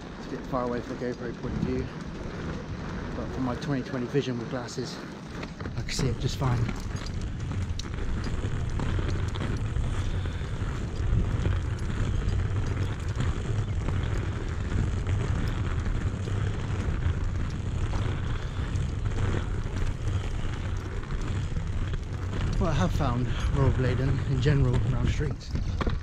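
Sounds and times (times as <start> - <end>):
skate wheels rolling on pavement: 0.0 - 26.0.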